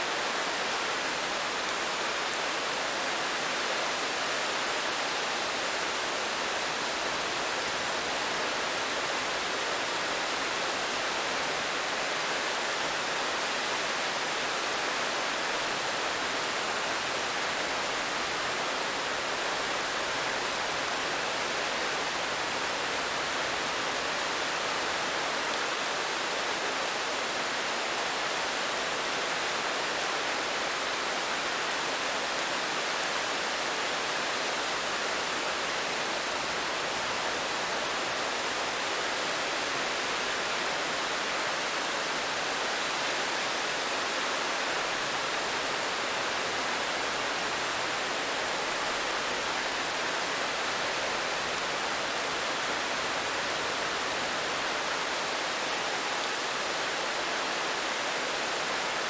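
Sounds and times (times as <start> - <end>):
rainfall hiss: 0.0 - 59.0.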